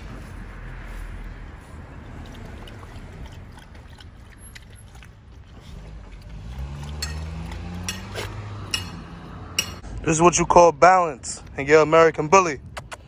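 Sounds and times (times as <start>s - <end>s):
engine hum: 0.0s - 11.7s
low outdoor rumble: 0.0s - 13.0s.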